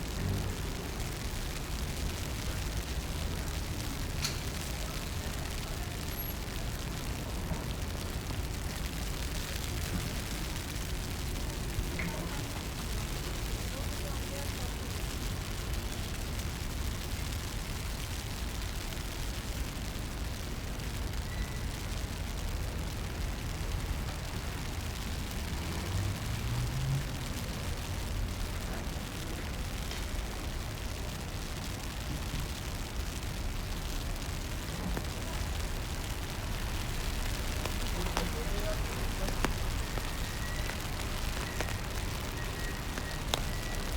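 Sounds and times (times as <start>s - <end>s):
rainy city street ambience: 0.0s - 43.9s.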